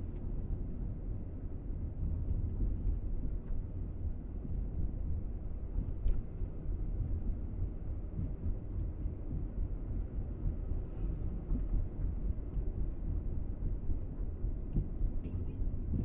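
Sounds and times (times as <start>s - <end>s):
vehicle rumble on road: 0.0s - 16.0s.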